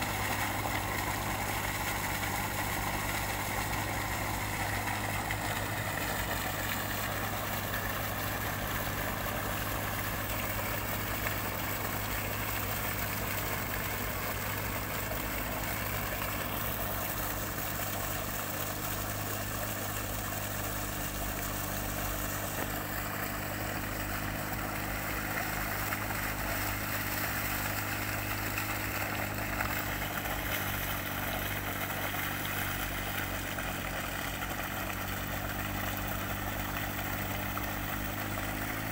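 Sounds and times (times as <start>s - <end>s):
diesel engine running steadily: 0.0s - 38.9s
slurry gushing from pipe: 0.0s - 38.9s.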